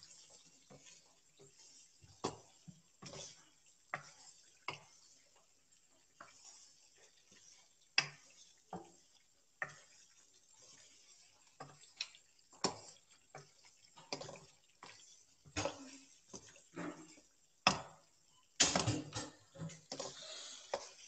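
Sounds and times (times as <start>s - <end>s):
spoon scraping a pan: 0.0s - 18.4s, 19.1s - 21.0s
faint sizzle: 0.0s - 21.0s.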